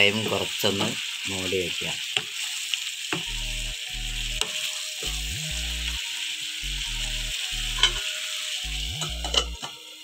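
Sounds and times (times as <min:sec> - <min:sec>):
background music with low notes: 0:00.0 - 0:10.0
curry sizzling in a pan: 0:00.0 - 0:10.0.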